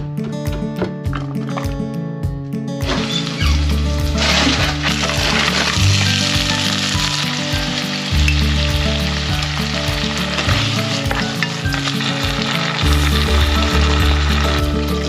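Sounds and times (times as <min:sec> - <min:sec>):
background music with bass line: 0:00.0 - 0:15.0
food sizzling in a pan: 0:02.8 - 0:15.0.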